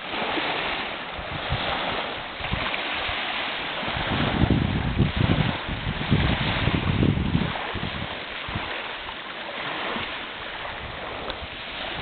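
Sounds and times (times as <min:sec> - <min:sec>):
small waves washing onto sand: 0:00.0 - 0:12.0
wind buffeting the microphone: 0:00.0 - 0:12.0.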